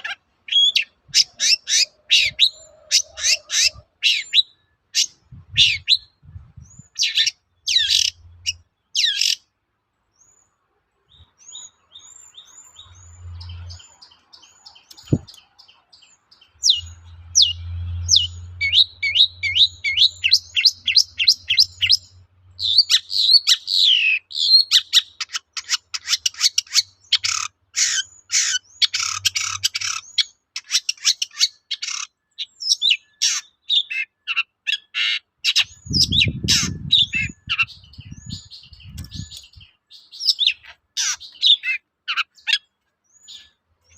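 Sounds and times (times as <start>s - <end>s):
bird singing varied song: 0.0s - 43.9s.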